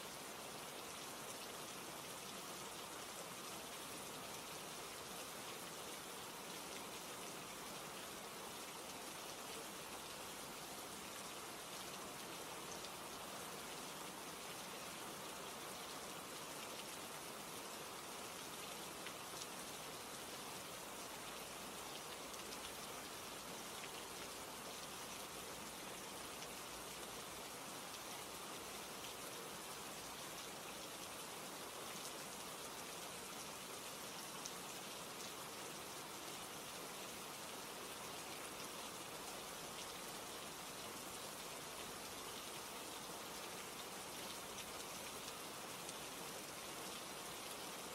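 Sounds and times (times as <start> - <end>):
hiss of falling rain: 0.0 - 47.9.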